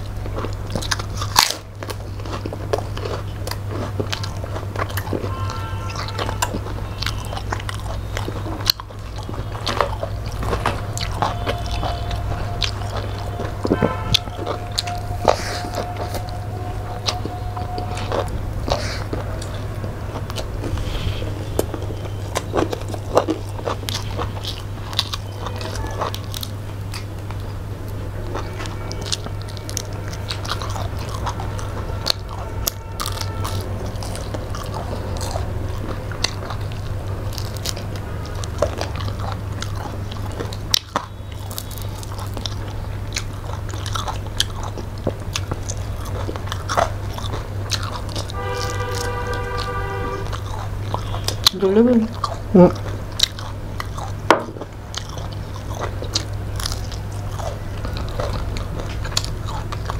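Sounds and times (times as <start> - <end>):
people chewing food: 0.0 - 59.9.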